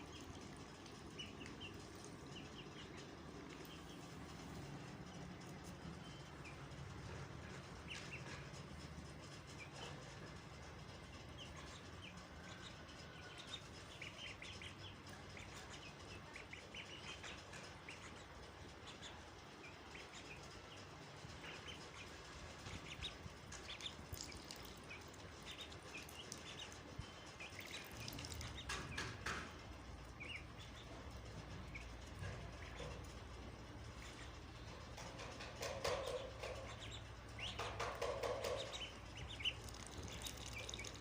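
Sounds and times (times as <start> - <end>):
ducklings and chicks peeping: 0.0 - 41.0.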